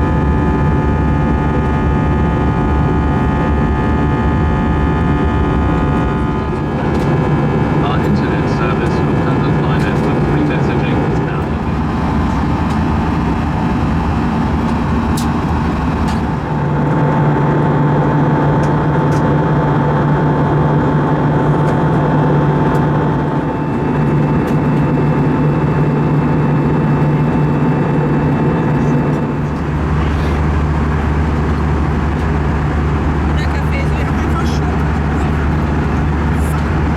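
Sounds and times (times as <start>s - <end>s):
airplane cabin airflow and engine drone: 0.0s - 36.9s.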